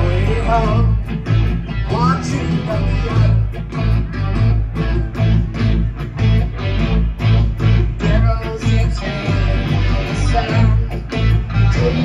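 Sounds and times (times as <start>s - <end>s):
bass guitar: 0.0s - 12.0s
drums with steady beat: 0.0s - 12.0s
electric guitars strumming: 0.0s - 12.0s.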